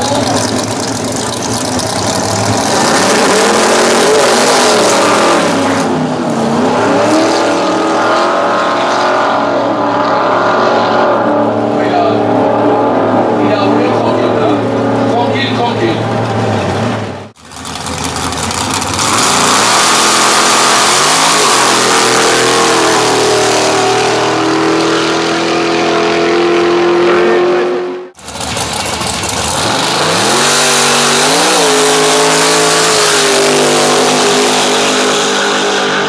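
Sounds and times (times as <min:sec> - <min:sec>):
drag racing engines at full throttle: 0:00.0 - 0:36.0.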